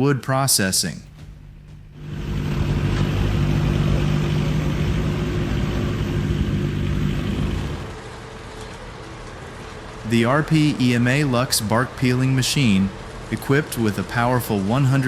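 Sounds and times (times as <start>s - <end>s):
log-peeling machine engine drone: 1.1s - 15.0s.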